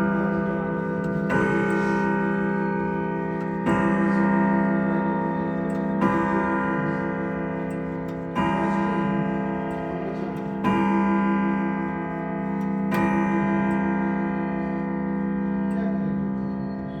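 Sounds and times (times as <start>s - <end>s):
grandfather clock striking: 0.0s - 16.4s.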